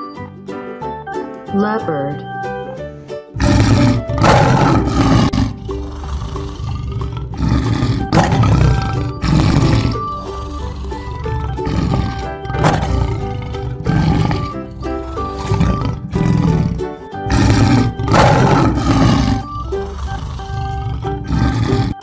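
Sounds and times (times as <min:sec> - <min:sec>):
background music: 0:00.0 - 0:22.0
leopard roars: 0:03.4 - 0:22.0.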